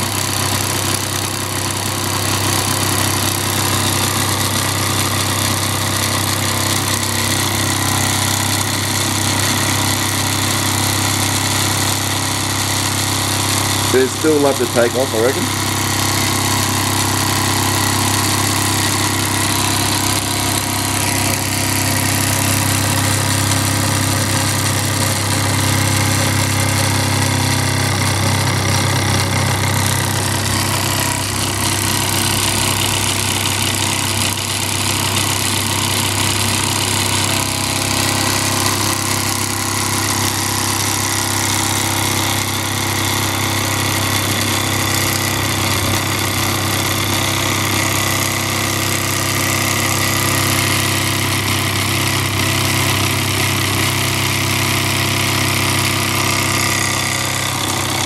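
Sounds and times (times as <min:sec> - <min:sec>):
toy steam engine running: 0:00.0 - 0:58.0.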